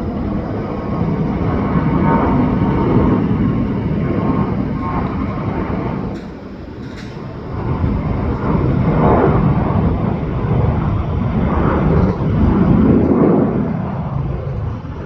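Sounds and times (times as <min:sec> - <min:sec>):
jet airliner engines rumbling: 0:00.0 - 0:15.0.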